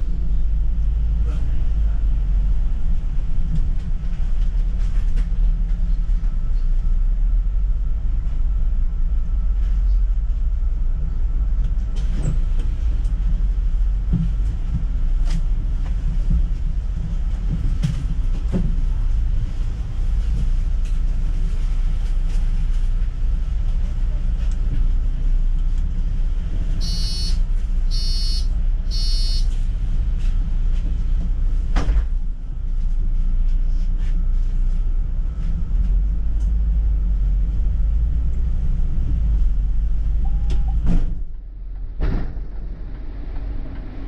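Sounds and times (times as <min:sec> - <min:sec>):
bus body rattling: 0:00.0 - 0:44.0
bus engine and road rumble: 0:00.0 - 0:44.0.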